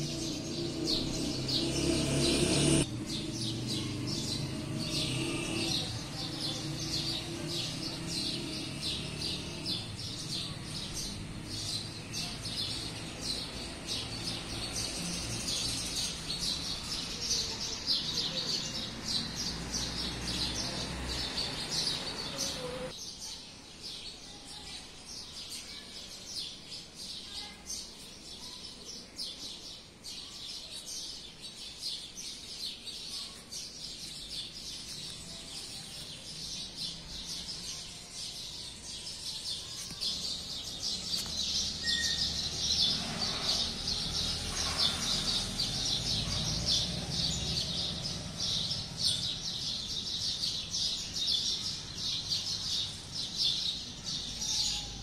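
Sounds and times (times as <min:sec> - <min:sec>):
background noise: 0:00.0 - 0:55.0
birds chirping: 0:00.0 - 0:55.0.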